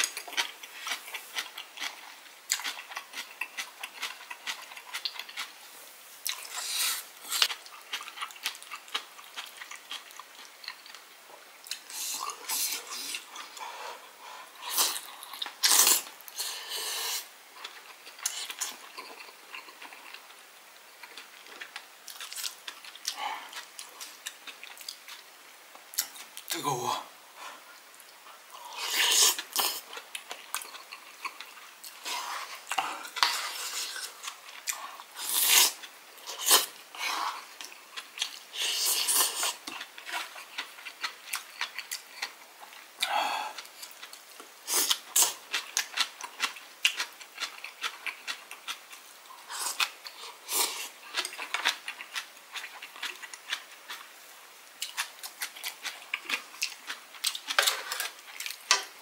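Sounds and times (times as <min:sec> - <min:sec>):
man chewing food: 0:00.0 - 0:26.5, 0:27.3 - 0:59.0.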